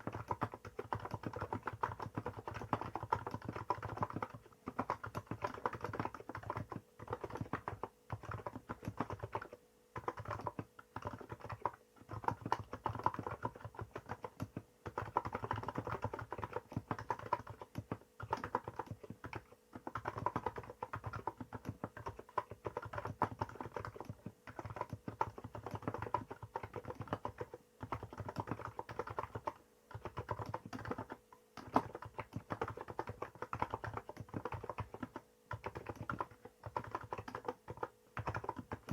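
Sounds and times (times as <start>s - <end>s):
typing on keyboard: 0.0s - 38.9s.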